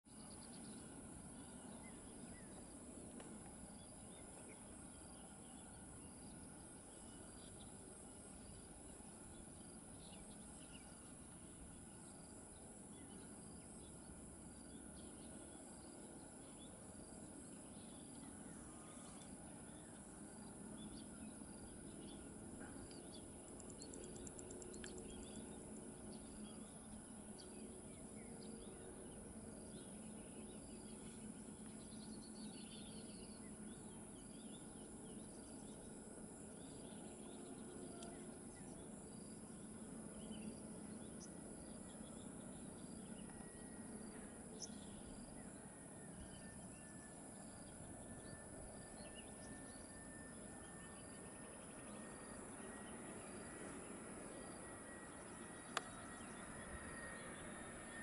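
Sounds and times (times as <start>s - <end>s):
faint high whine: 0.1s - 58.0s
insects chirping and trilling: 0.1s - 58.0s.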